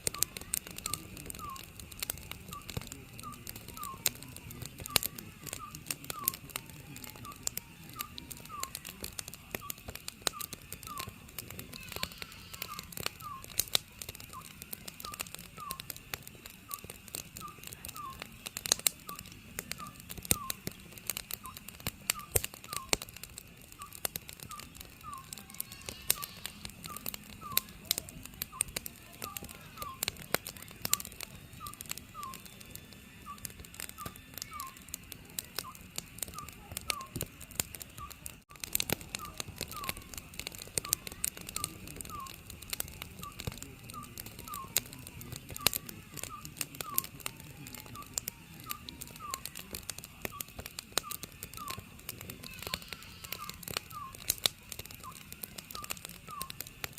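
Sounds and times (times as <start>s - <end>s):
owl whistled calls: 0.0s - 16.0s, 16.7s - 18.3s, 19.0s - 23.2s, 23.8s - 37.2s, 38.9s - 42.6s, 43.2s - 56.7s
wood fire crackling: 0.0s - 56.9s.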